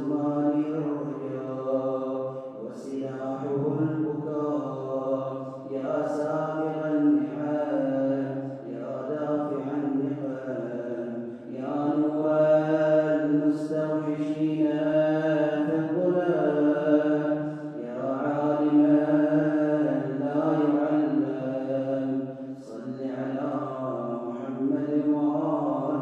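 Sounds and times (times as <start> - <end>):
man chanting melodically: 0.0 - 26.0.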